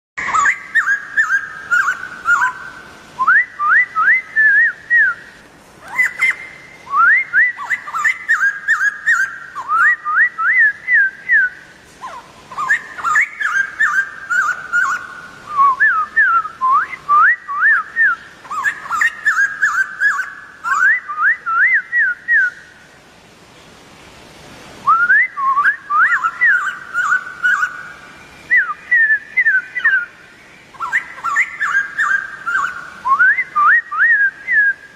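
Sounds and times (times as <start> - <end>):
bird singing whistled phrases: 0.2 - 2.6, 3.2 - 22.7, 24.8 - 27.9, 28.5 - 34.9.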